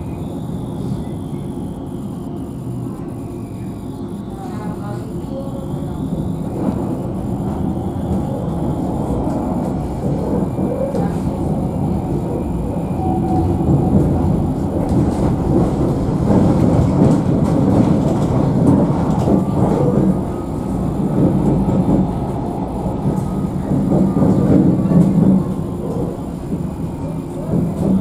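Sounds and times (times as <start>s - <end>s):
faint high whine: 0.0s - 28.0s
tram wheels rumbling: 0.0s - 28.0s.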